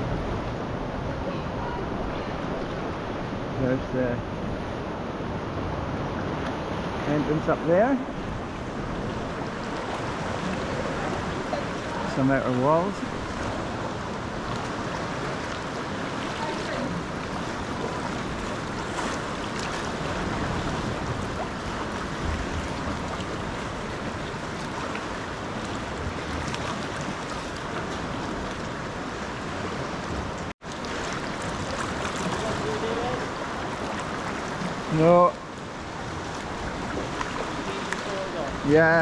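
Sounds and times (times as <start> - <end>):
sea waves: 0.0 - 39.0.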